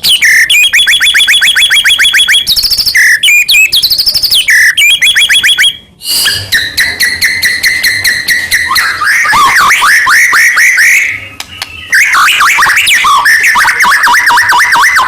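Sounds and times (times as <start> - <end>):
bird singing whistled phrases: 0.0 - 13.7.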